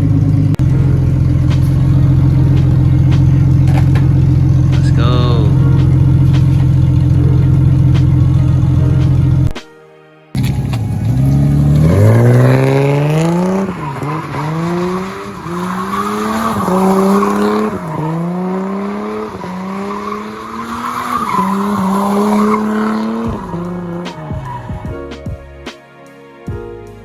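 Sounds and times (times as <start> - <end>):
car engine revving: 0.0 - 9.5, 10.4 - 24.9
tires spinning and squealing: 0.0 - 9.5, 10.4 - 25.1.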